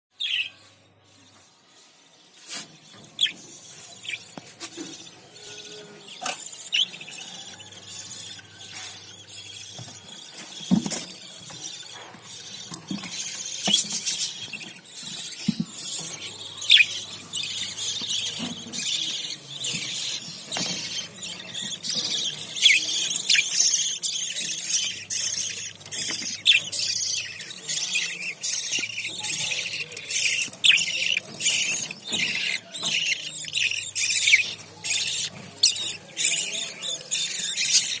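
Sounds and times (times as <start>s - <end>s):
chicks squealing: 3.2s - 38.0s.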